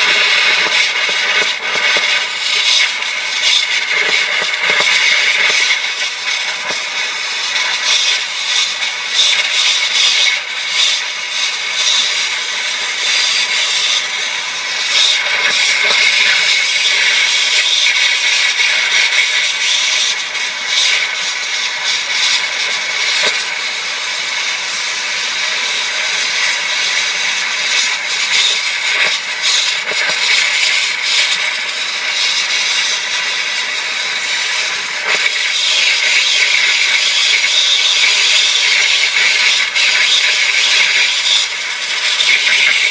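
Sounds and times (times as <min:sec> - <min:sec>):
torch flame hissing: 0:00.0 - 0:42.9.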